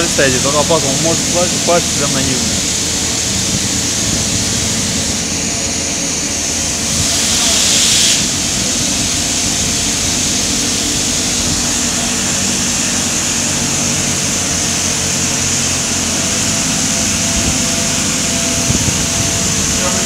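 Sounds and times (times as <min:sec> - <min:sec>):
drilling rig machinery drone: 0:00.0 - 0:20.0
low machinery hums: 0:00.0 - 0:20.0
machinery hiss: 0:00.0 - 0:20.0.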